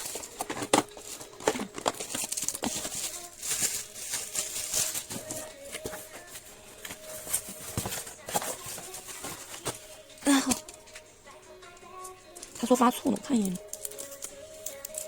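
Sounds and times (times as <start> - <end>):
plastic packaging crinkling and tearing: 0.0 - 11.0, 12.4 - 15.0.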